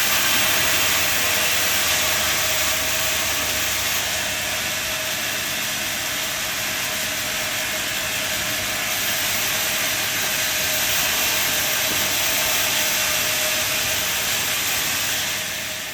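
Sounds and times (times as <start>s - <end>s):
saw cutting through log: 0.0s - 15.9s.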